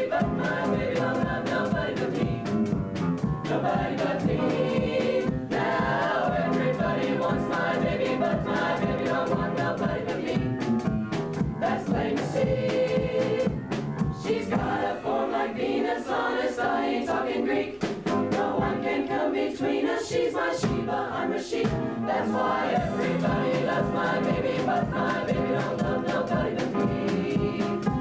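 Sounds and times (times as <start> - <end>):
mixed choir singing: 0.0 - 28.0.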